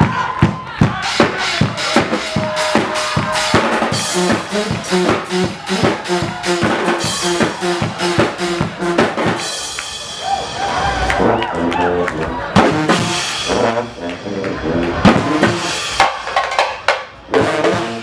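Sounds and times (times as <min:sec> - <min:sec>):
drums keeping a beat: 0:00.0 - 0:18.0
brass band playing: 0:01.0 - 0:18.0.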